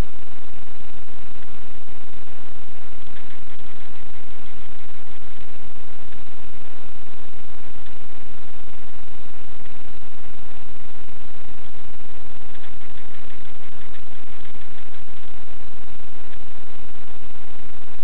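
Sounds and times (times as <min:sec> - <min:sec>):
electrical hiss and hum: 0:00.0 - 0:18.0.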